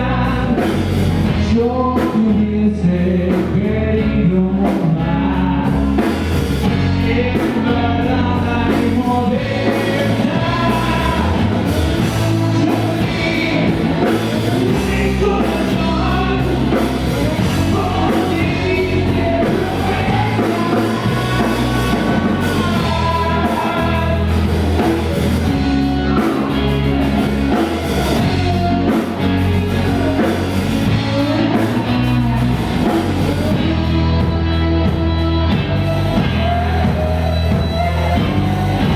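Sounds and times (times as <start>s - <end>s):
person singing: 0.0s - 38.9s
rock band playing: 0.0s - 38.9s.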